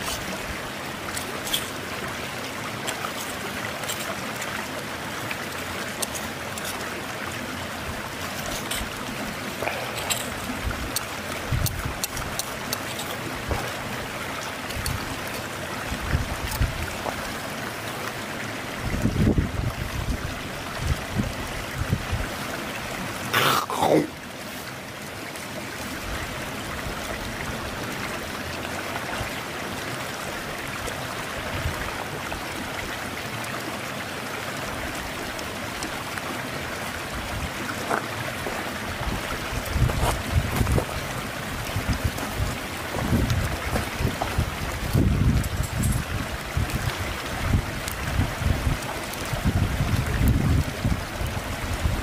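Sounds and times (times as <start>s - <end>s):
river stream rushing hiss: 0.0s - 52.0s.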